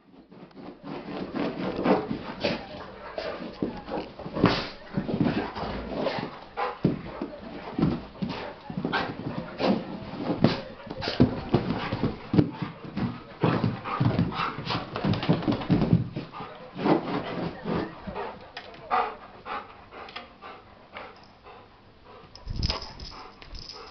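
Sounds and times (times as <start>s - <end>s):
dogs scuffling: 0.0s - 19.2s, 22.3s - 23.9s.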